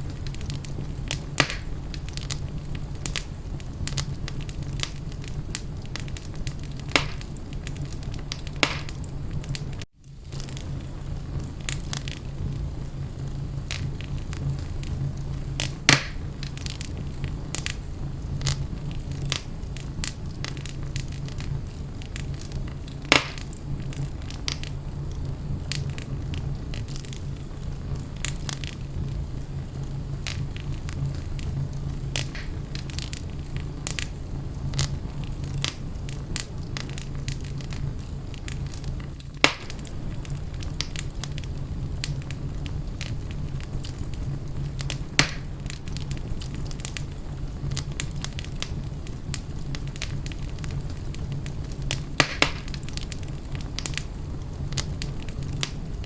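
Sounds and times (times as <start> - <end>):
loud sharp fire pops: 0.0 - 56.0
wood fire crackling: 0.0 - 56.0.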